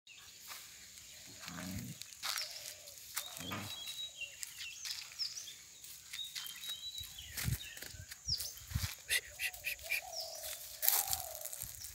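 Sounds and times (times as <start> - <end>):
birds chirping: 0.1 - 11.9.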